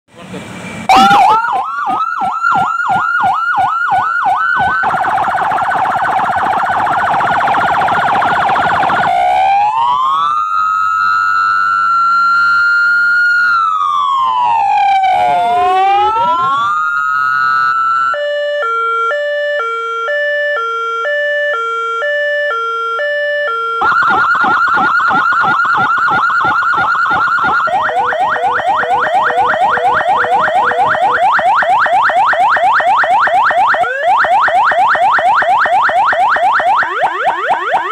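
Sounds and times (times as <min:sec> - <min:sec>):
electronic emergency siren: 0:00.8 - 0:37.9.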